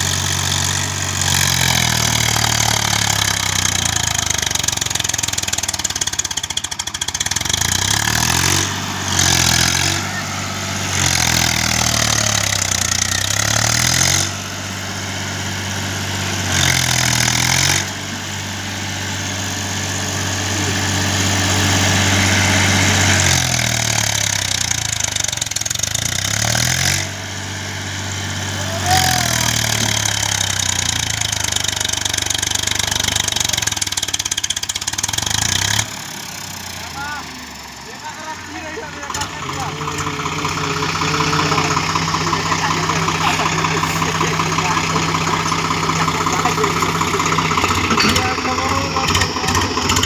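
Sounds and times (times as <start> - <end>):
tractor diesel engine revving: 0.0 - 50.0.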